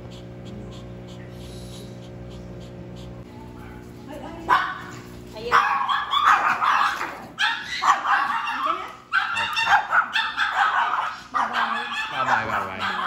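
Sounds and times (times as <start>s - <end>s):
small dogs barking: 0.1s - 13.0s.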